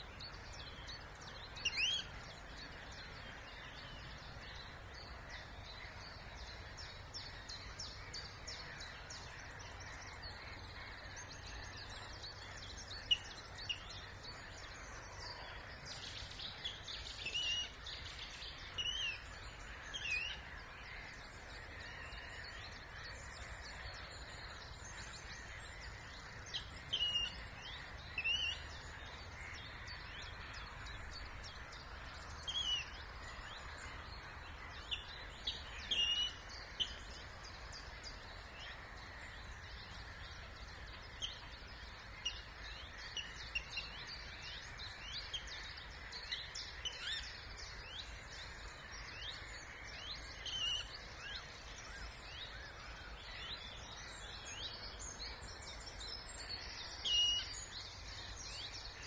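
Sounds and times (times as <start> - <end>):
birds singing and calling: 0.0 - 59.0.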